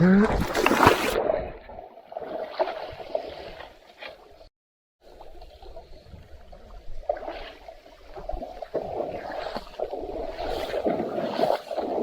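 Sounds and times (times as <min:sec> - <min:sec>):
river water splashing and gurgling: 0:00.0 - 0:12.0.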